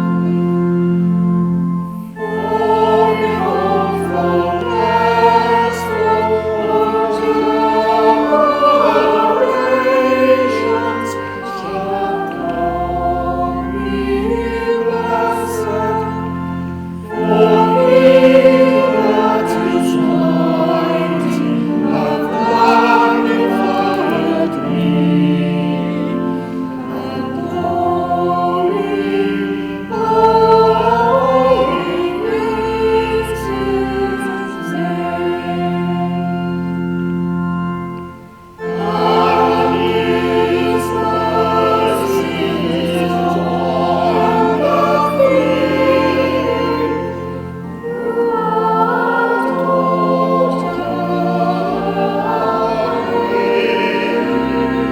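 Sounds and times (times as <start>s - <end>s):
choir singing: 0.0s - 54.9s
organ playing low notes: 0.0s - 54.9s.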